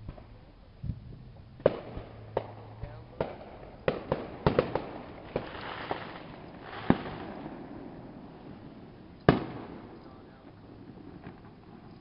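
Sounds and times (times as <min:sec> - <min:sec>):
faint crackling hiss: 0:00.0 - 0:12.0
distant fireworks bangs: 0:01.6 - 0:12.0.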